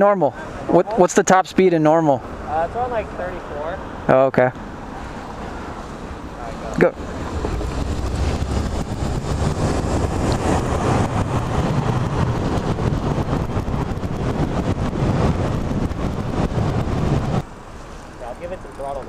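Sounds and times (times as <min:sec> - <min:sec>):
wind rushing over microphone: 0:00.2 - 0:19.0.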